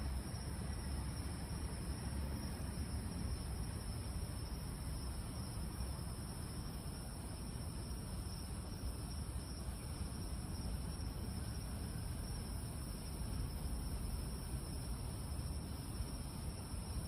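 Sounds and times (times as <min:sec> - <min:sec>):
crickets and insects chirring: 0:00.0 - 0:17.0
low constant rumble: 0:00.0 - 0:17.0.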